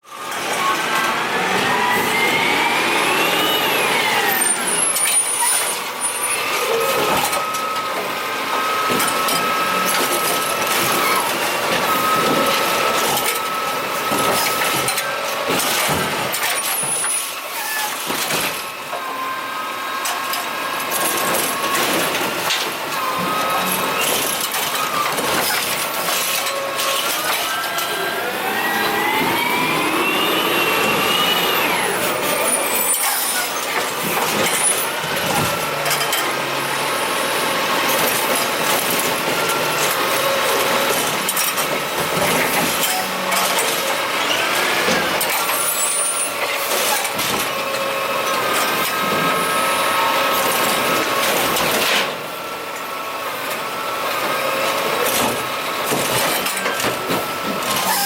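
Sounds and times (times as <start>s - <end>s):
garbage truck engine running: 0.1s - 58.0s.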